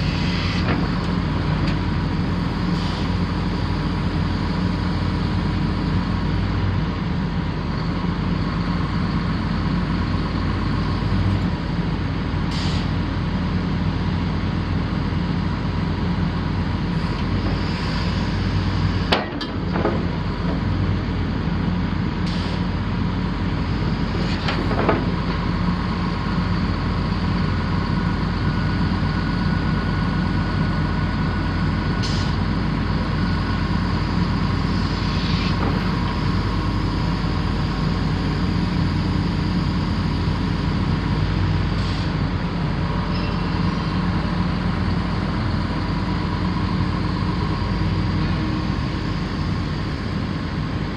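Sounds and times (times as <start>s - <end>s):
excavator diesel engine whining: 0.0s - 50.9s.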